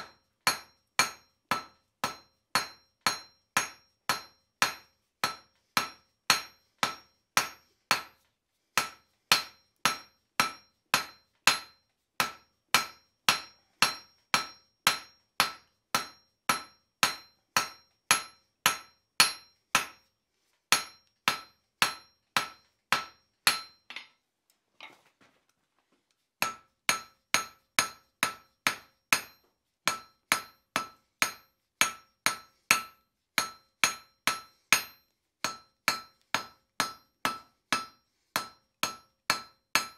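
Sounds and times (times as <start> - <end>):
hammer striking steel on anvil: 0.0 - 20.1, 20.7 - 24.2, 26.4 - 39.9.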